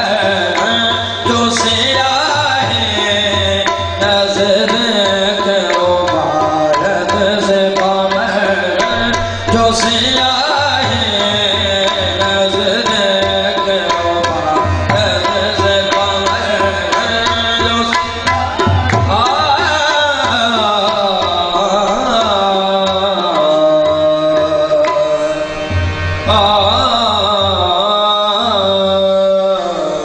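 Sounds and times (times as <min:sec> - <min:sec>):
man singing: 0:00.0 - 0:25.6, 0:26.2 - 0:30.0
harmonium: 0:00.0 - 0:30.0
tabla rhythm: 0:00.0 - 0:30.0.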